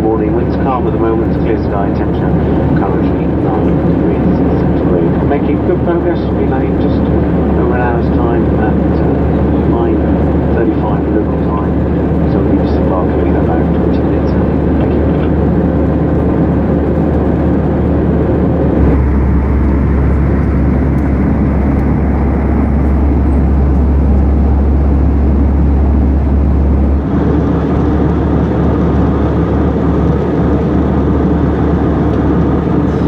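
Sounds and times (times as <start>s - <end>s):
airliner cabin noise: 0.0s - 33.0s
deep hum: 0.4s - 33.0s.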